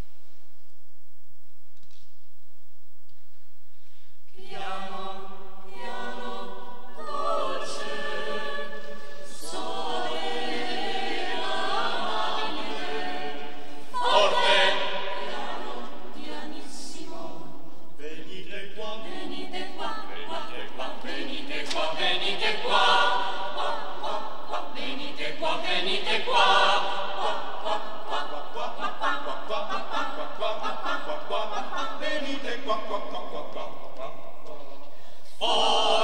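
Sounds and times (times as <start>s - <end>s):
mixed choir singing unaccompanied: 4.3s - 36.0s.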